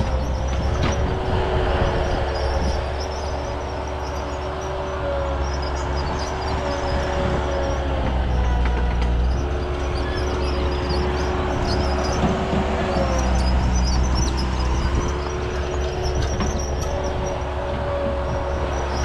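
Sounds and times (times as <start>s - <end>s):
earthmoving machine engine running: 0.0s - 19.0s
high squeal: 0.0s - 19.0s.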